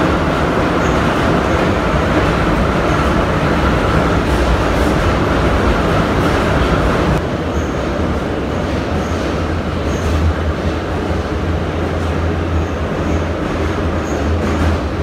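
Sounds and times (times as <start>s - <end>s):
metro train wheels rumbling on rail: 0.0s - 15.0s.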